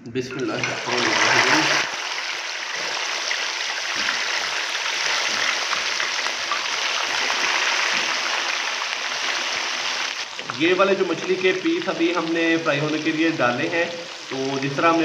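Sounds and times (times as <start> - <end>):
fish deep-frying sizzle: 0.4 - 15.0.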